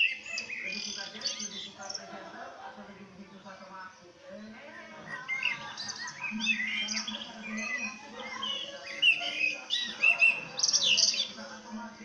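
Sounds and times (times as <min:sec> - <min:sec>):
songbirds chirping and whistling: 0:00.0 - 0:02.4, 0:03.2 - 0:12.0.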